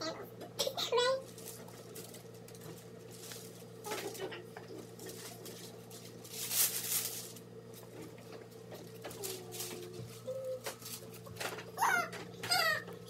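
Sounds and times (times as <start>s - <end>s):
steady low hum: 0.0s - 13.0s
rustling and handling noise: 0.6s - 12.4s.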